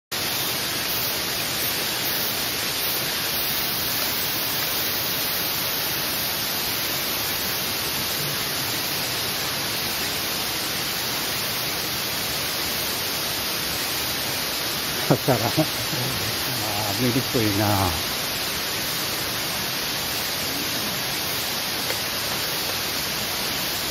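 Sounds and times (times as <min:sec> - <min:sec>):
waterfall rushing: 0:00.2 - 0:23.9.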